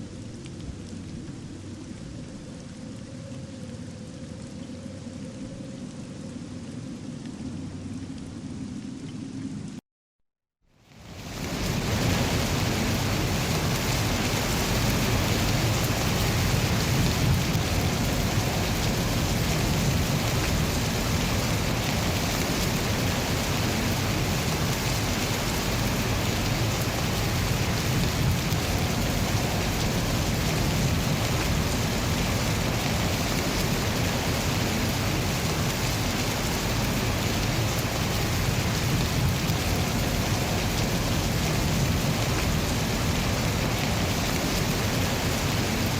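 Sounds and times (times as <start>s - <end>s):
steady rain falling: 0.0s - 9.8s, 10.8s - 45.9s.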